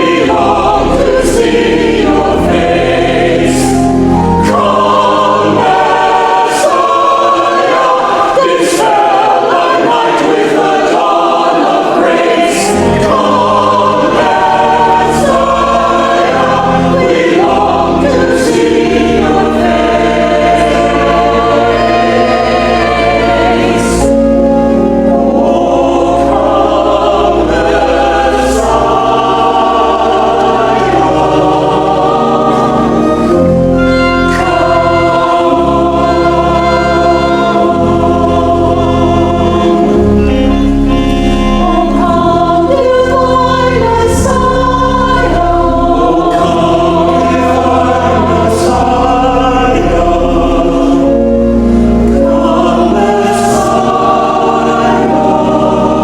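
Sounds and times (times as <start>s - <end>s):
choir singing in parts: 0.0s - 56.0s
long-held low notes: 0.0s - 56.0s.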